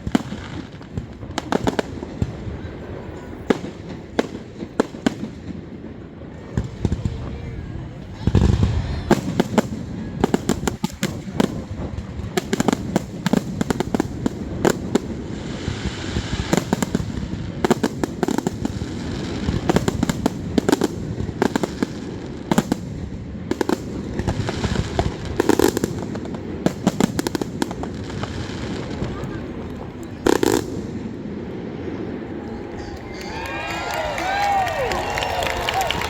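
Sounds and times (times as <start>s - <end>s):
firework cracks and pops: 0.0s - 7.4s, 8.1s - 31.4s, 32.5s - 36.0s.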